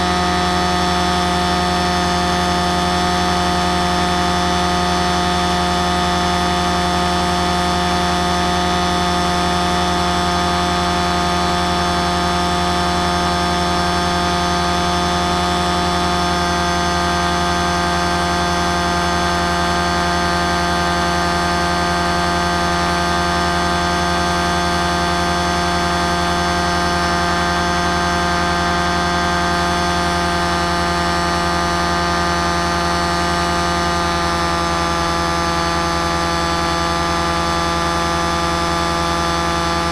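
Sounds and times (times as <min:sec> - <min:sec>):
small aircraft motor: 0:00.0 - 0:39.9.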